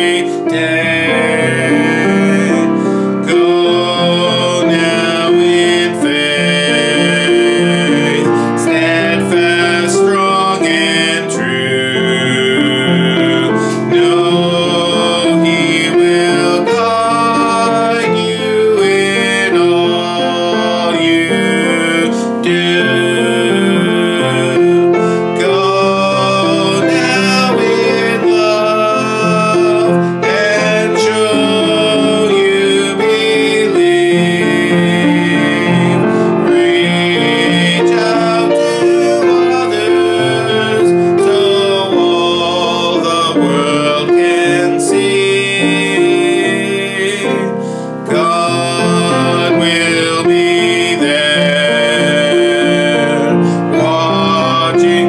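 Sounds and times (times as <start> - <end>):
piano accompaniment: 0.0 - 55.0
voices singing a hymn: 0.0 - 55.0.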